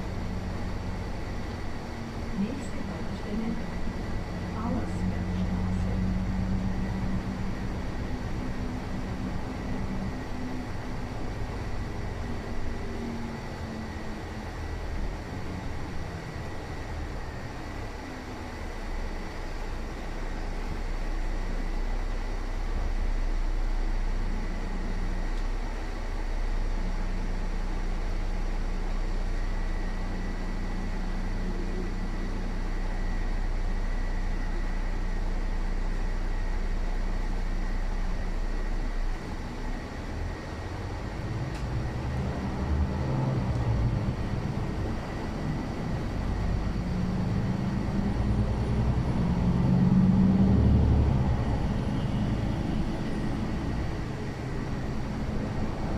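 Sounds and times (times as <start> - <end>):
road noise: 0.0 - 27.2, 36.4 - 55.9
bus engine hum: 0.0 - 55.9.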